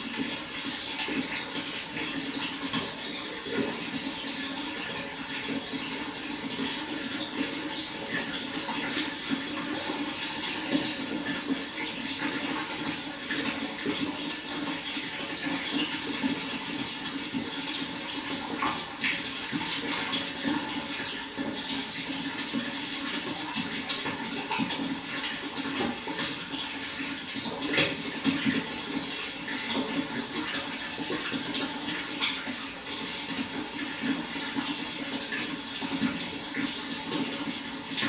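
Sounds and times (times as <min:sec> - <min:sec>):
water flowing and splashing: 0:00.0 - 0:38.0.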